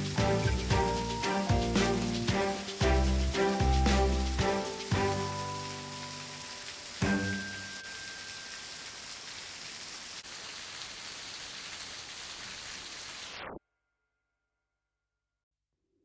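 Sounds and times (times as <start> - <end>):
steady hiss: 0.0 - 13.4.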